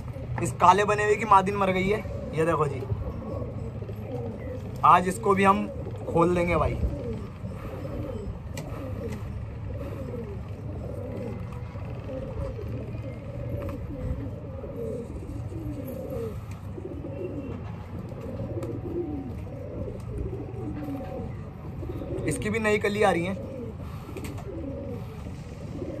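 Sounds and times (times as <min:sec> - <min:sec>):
pigeons cooing: 0:00.0 - 0:26.0.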